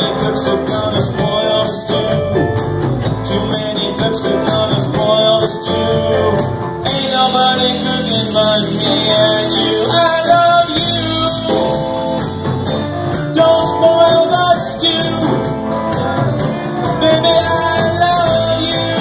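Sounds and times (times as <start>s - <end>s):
blues band playing: 0.0s - 19.0s
held lead guitar notes: 0.0s - 19.0s.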